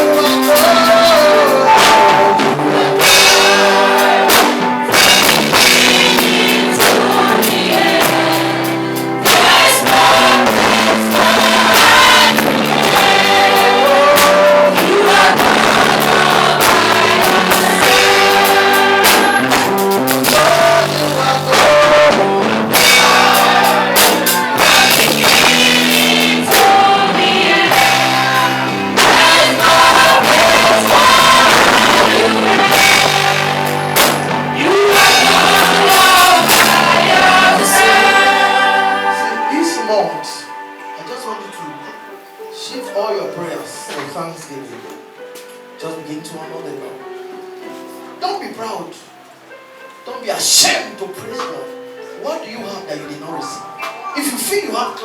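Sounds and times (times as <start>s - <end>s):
choir and congregation singing: 0.0s - 45.8s
band with keyboard and drums: 0.0s - 55.0s.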